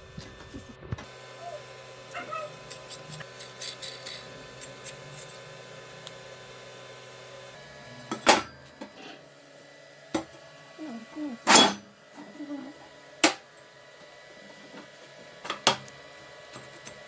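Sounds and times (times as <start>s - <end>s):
small electric motor humming: 0.0s - 17.0s.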